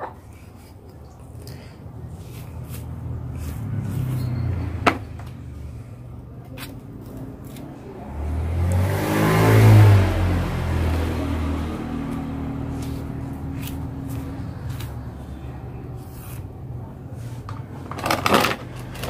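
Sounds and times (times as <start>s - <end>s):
vehicle engines passing: 0.0s - 19.0s.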